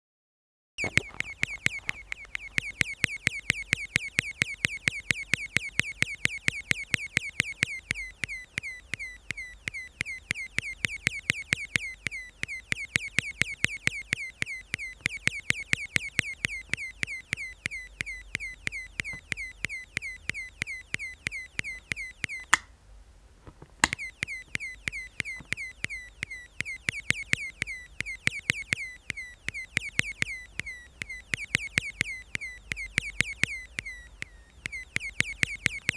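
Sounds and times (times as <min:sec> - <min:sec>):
electronic chirps: 0:00.8 - 0:22.6, 0:23.8 - 0:35.9
click: 0:00.8 - 0:22.7, 0:23.8 - 0:35.9.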